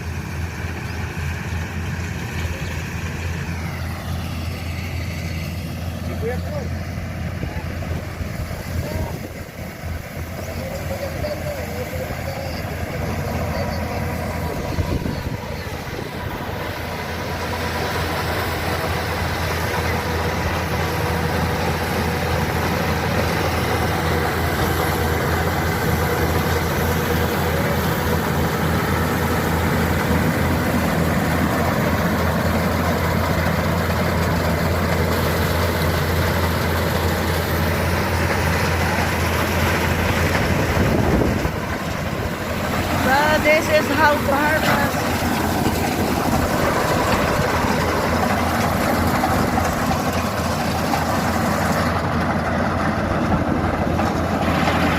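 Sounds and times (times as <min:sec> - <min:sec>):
harvester engine humming: 0:00.0 - 0:54.9.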